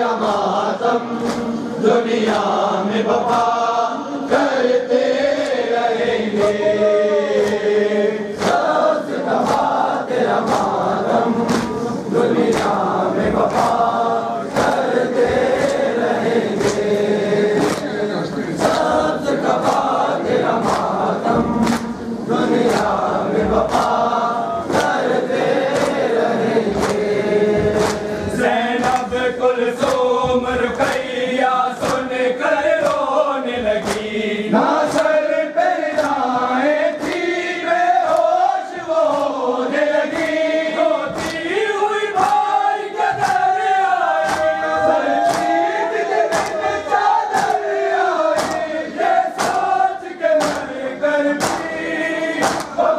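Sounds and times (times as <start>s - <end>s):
crowd chanting: 0.0s - 52.9s
men singing: 0.0s - 52.9s.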